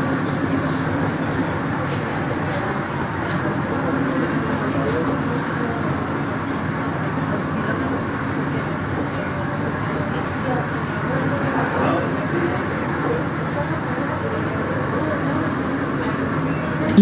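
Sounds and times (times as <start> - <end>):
train rolling drone: 0.0 - 17.0.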